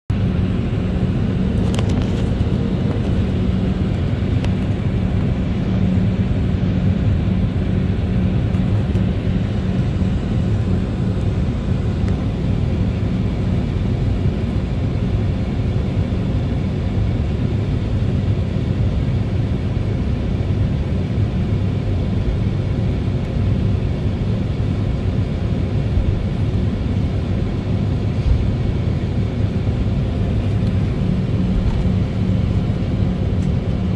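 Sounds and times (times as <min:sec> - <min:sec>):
jet engines idling in cabin: 0:00.1 - 0:33.9.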